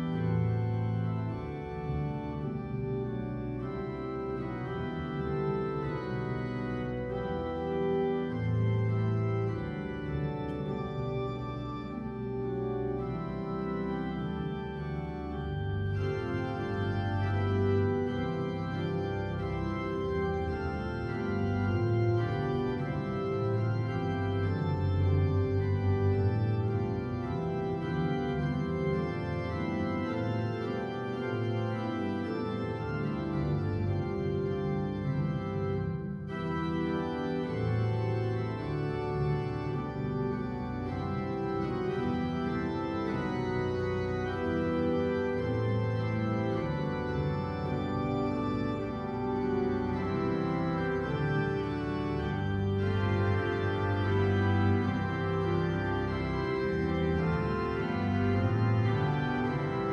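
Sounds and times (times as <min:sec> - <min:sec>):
organ playing sustained chords: 0:00.0 - 0:59.9.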